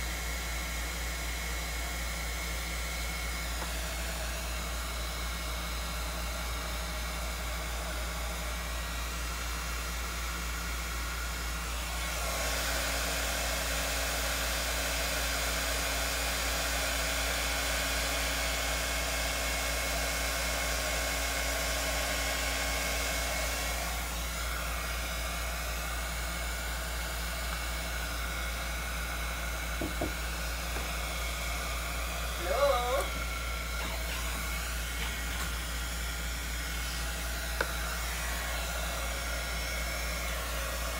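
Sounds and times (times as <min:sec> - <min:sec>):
hot-air blower running: 0:00.0 - 0:40.9.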